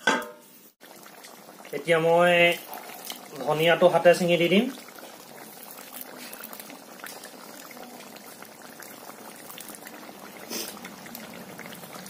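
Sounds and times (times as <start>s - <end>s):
curry bubbling and crackling: 0.7s - 12.0s.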